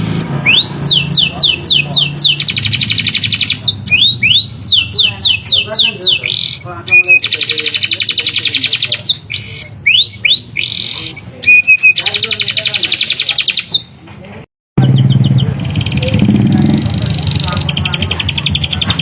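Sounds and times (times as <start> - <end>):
canary singing: 0.0 - 14.0, 14.8 - 19.0.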